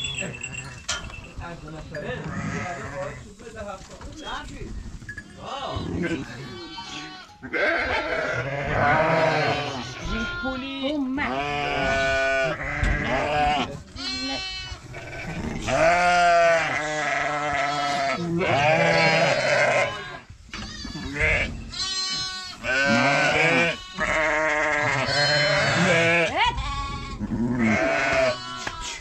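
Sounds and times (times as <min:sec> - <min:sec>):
sheep and goats bleating: 0:01.6 - 0:03.2, 0:05.3 - 0:29.0.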